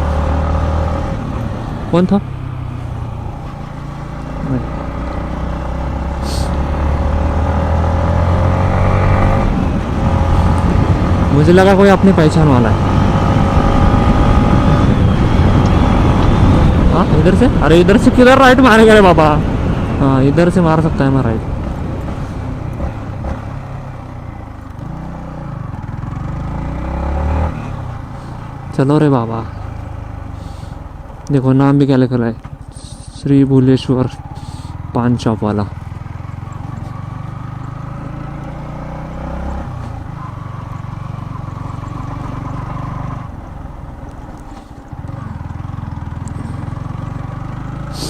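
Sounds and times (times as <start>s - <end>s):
motorcycle engine revving: 0.0s - 48.0s
wind and road noise: 0.0s - 48.0s.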